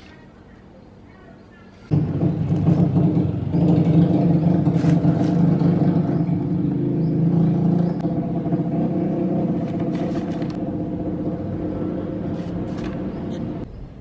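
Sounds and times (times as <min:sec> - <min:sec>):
motor engine running: 0:01.9 - 0:13.6.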